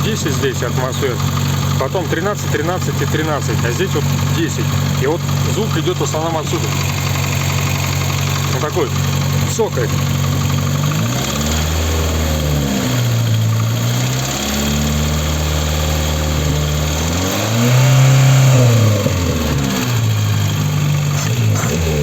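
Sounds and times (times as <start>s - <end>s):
petrol engine revving: 0.0s - 22.0s.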